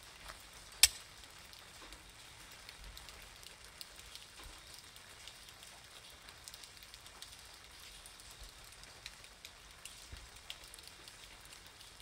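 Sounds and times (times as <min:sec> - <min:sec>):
raindrops ticking on an umbrella: 0:00.0 - 0:12.0
steady rain: 0:00.0 - 0:12.0.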